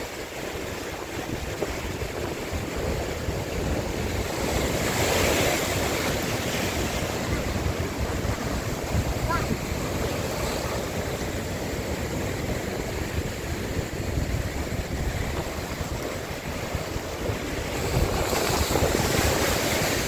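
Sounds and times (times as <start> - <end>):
surf on rocky shore: 0.0 - 20.0
wave breaking against rocks: 0.1 - 20.0.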